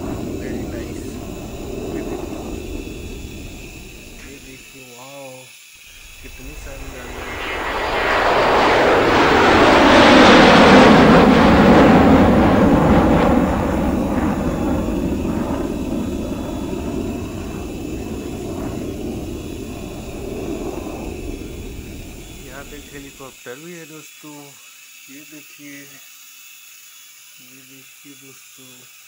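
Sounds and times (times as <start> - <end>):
toy helicopter rotor whirring: 0.0 - 8.1, 12.8 - 29.0.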